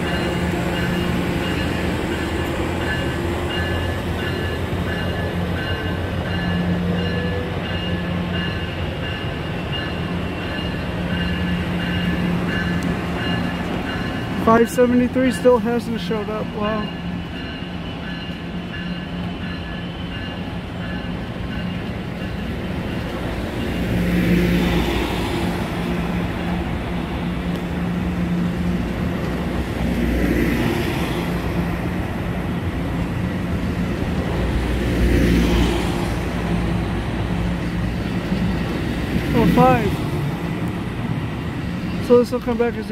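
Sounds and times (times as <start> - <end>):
rolling rail noise: 0.0 - 42.9.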